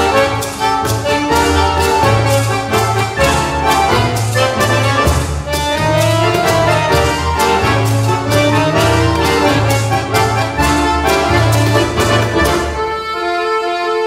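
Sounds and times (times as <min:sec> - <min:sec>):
accordion orchestra playing dance music: 0:00.0 - 0:14.0.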